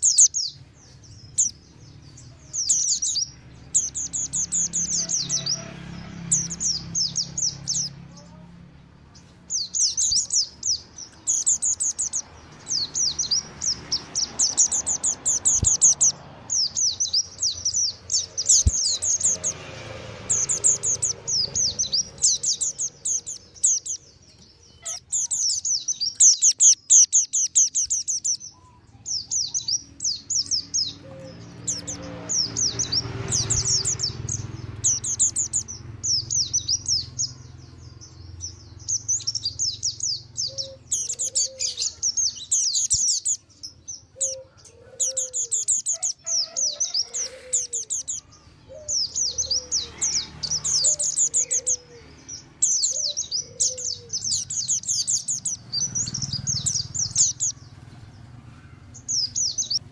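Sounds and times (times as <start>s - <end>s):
birds twittering: 0.0s - 59.9s.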